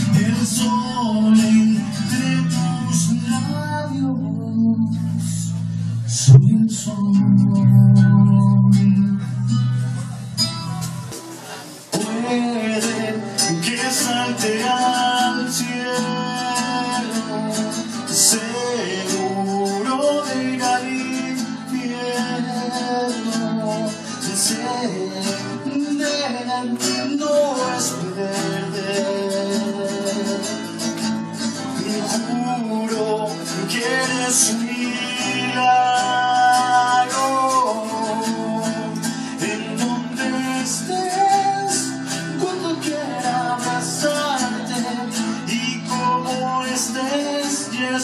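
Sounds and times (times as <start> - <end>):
man singing into microphone: 0.0 - 10.6, 11.9 - 48.0
acoustic guitar strummed: 0.0 - 48.0.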